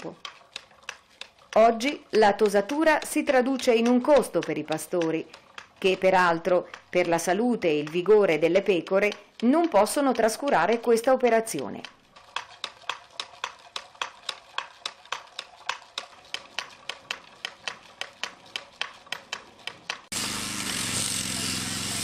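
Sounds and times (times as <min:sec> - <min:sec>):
hand shears snipping fleece: 0:00.0 - 0:22.0.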